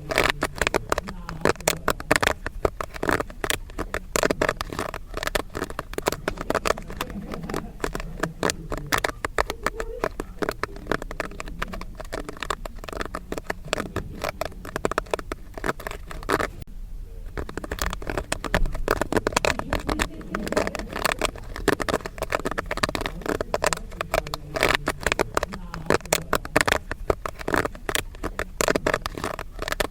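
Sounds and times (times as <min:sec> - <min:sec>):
popcorn popping in a pan: 0:00.0 - 0:16.7, 0:17.4 - 0:29.9.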